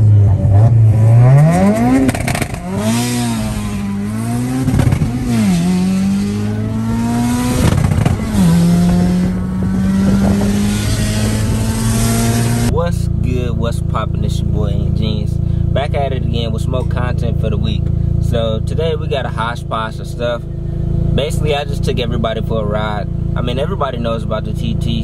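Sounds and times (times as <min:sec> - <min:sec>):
turbocharged car engine accelerating: 0:00.0 - 0:25.0.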